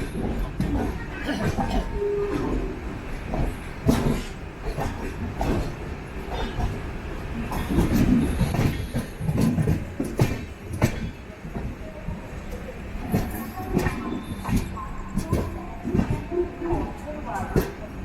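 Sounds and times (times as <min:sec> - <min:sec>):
train coach rumbling: 0:00.0 - 0:18.0
wheels clacking over rail joints: 0:00.0 - 0:18.0.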